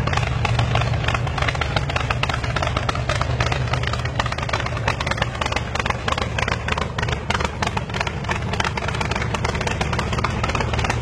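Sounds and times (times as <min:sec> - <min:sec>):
engine rumbling with exhaust crackle: 0:00.0 - 0:11.0.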